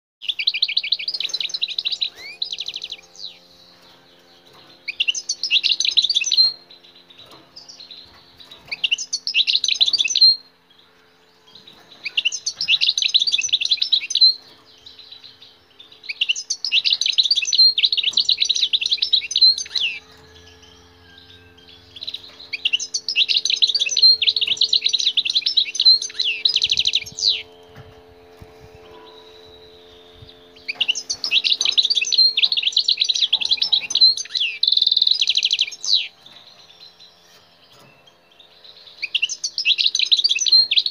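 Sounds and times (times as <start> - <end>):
faint steady hum: 0.2 - 40.9
finch singing: 0.2 - 40.9.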